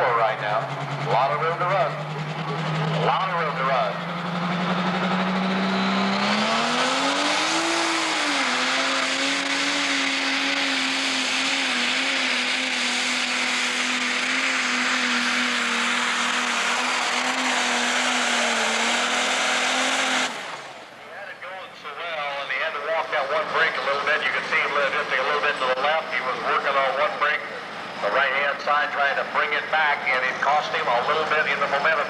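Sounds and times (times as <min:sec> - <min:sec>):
diesel tractor engine at full power: 0:00.0 - 0:32.0.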